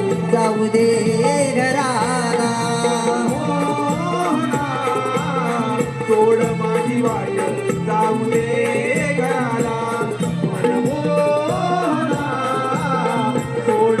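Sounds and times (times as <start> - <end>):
hand drum rhythm: 0.0 - 14.0.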